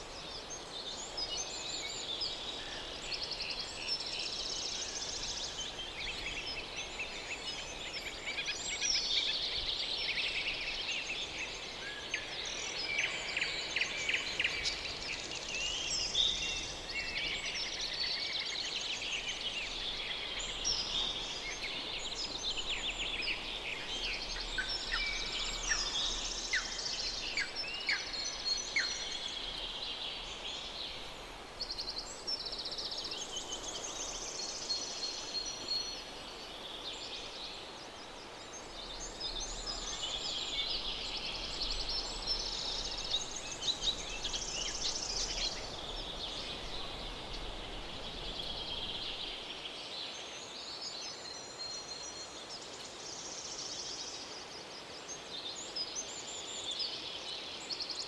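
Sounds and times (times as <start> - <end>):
faint background hiss: 0.0 - 58.0.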